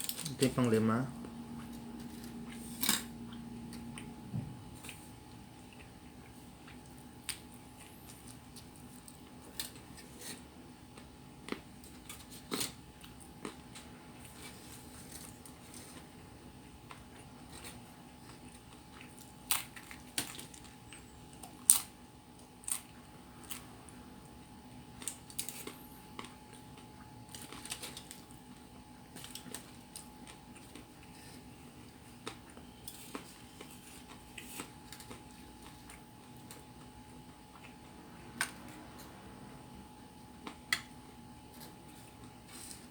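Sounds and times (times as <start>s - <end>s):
faint steady hum: 0.0s - 42.9s
person chewing food: 1.2s - 42.9s.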